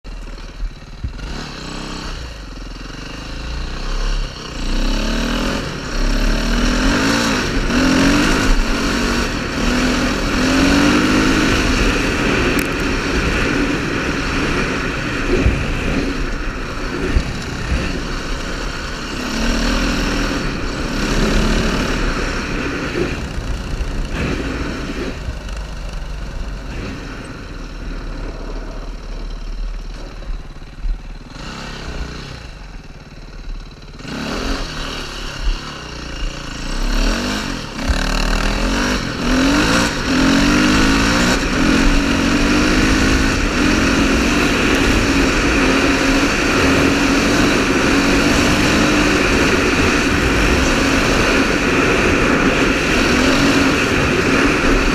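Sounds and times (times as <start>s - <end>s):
motorcycle engine revving: 0.0s - 54.9s
wind rumble on microphone: 5.5s - 32.8s, 34.6s - 54.9s.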